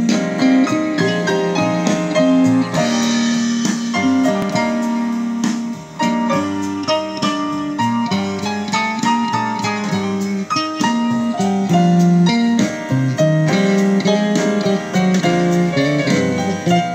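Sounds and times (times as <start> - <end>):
piano chords and melody: 0.0 - 16.9.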